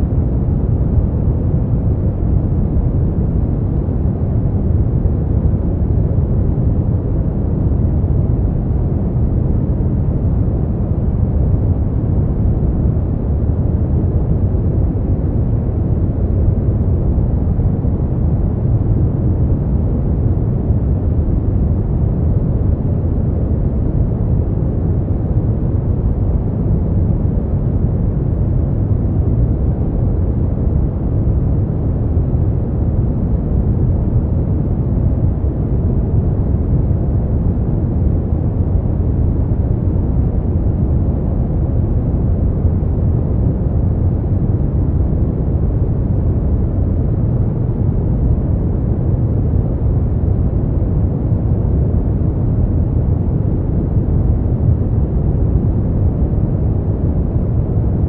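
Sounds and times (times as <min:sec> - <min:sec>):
deep steady brown noise: 0:00.0 - 0:58.0.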